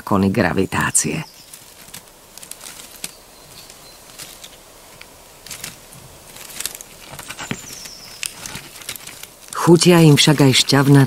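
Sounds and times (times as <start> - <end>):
twigs crackling and snapping: 0.4 - 11.0.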